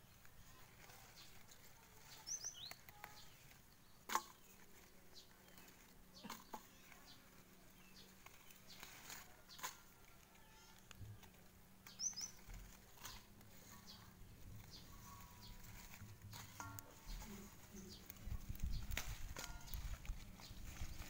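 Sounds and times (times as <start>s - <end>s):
faint outdoor ambience: 0.0s - 21.0s.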